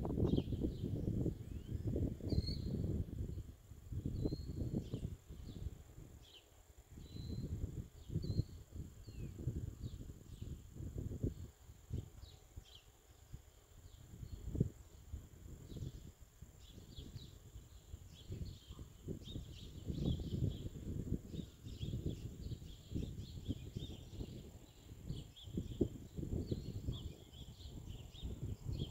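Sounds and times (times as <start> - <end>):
wind buffeting microphone: 0.0 - 28.9
faint bird chirps: 0.3 - 10.7, 11.3 - 28.9.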